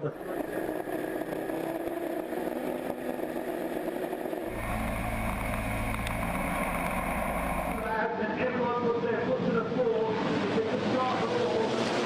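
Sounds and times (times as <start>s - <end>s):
truck diesel engines droning: 0.0s - 12.0s.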